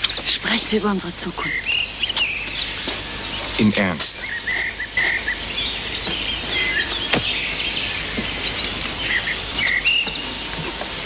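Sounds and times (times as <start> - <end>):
birds chirping and trilling: 0.0 - 11.0
outdoor background hiss: 0.0 - 11.0.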